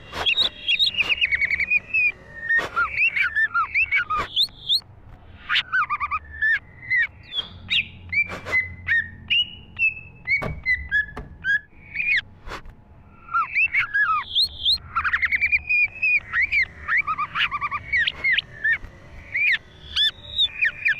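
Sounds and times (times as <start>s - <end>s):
bird whistling song: 0.0s - 12.3s, 13.1s - 20.9s.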